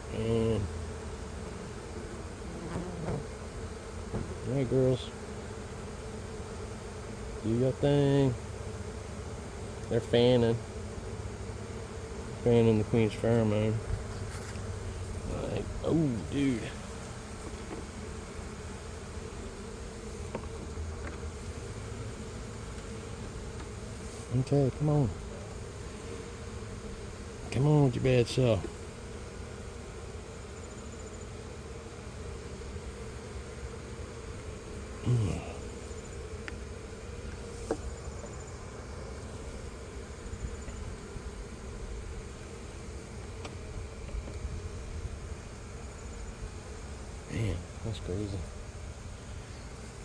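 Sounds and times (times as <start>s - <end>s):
honeybees buzzing: 0.0s - 50.0s.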